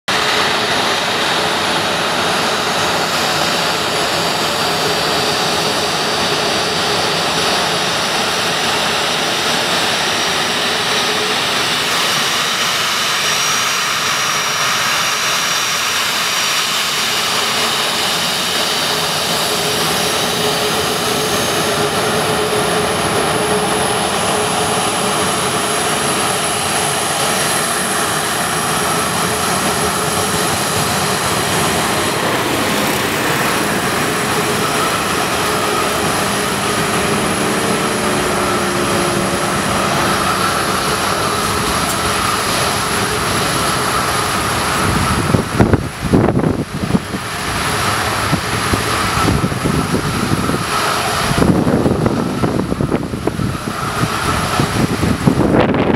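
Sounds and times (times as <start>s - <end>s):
jet engines whining: 0.1s - 55.9s.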